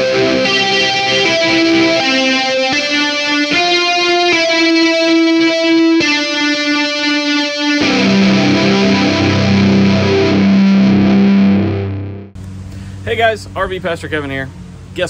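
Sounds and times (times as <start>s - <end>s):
guitar-led instrumental music: 0.0s - 12.4s
heavy bass line: 0.0s - 13.8s.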